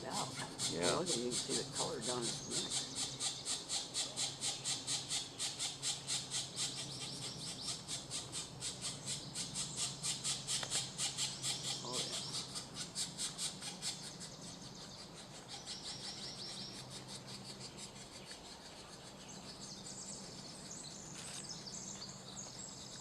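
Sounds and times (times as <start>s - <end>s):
woodpecker nestlings calling: 0.0s - 23.0s.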